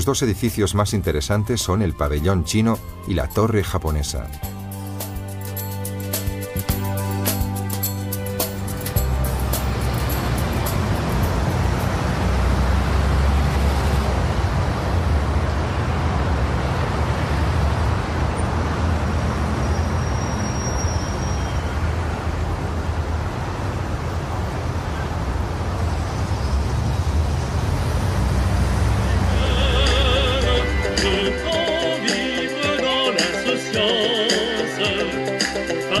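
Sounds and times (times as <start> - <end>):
passing cars and trams: 0.0 - 36.0.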